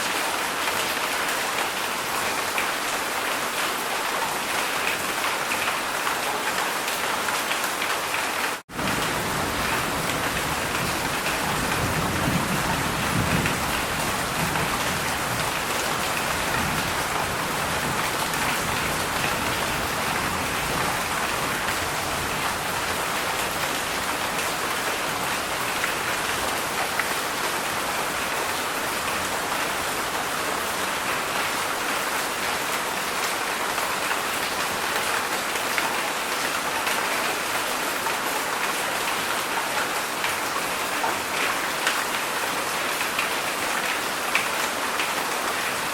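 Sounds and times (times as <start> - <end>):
heavy rain downpour: 0.0 - 45.9.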